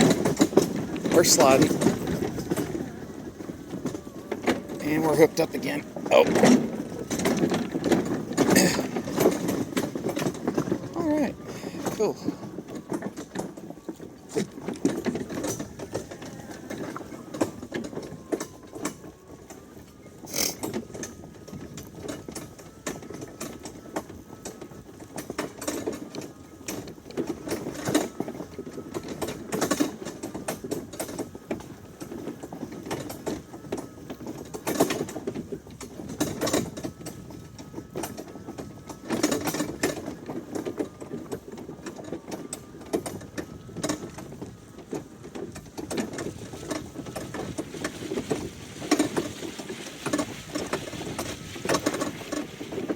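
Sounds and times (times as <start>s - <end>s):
mower and wagon rattling: 0.0s - 52.9s
riding mower motor whine: 0.0s - 52.9s.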